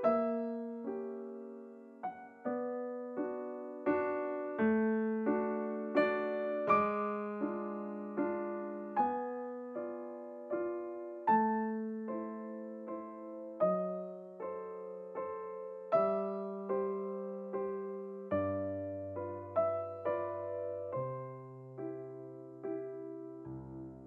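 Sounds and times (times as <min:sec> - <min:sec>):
slow soft piano piece: 0:00.0 - 0:24.0.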